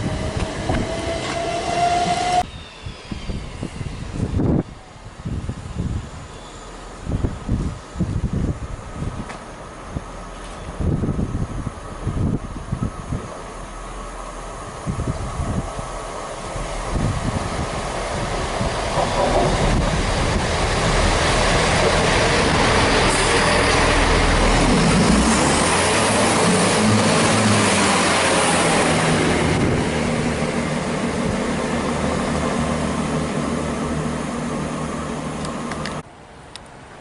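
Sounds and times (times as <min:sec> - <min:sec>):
train rumble and wheel noise: 0:00.0 - 0:37.0.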